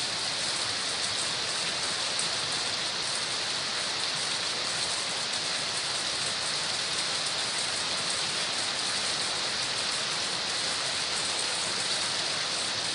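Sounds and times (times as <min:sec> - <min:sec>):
heavy rain pouring on rooftops: 0:00.0 - 0:12.9.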